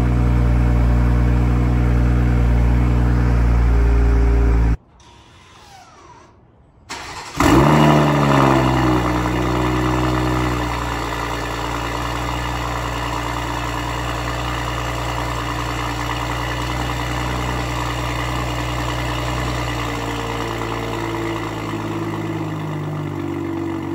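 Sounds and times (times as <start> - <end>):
car engine starting and idling: 0.0 - 4.8, 5.5 - 23.9.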